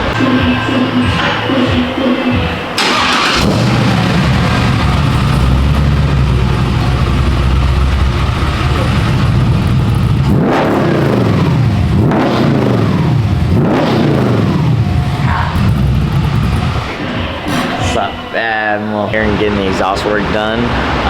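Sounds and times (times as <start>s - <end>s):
pickup engine starting and idling: 0.0s - 21.0s.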